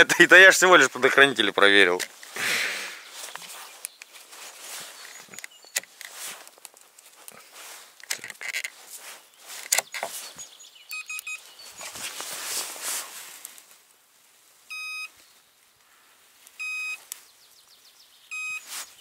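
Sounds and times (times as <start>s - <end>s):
faint clicks and rustles: 0.7s - 2.4s, 3.1s - 17.8s.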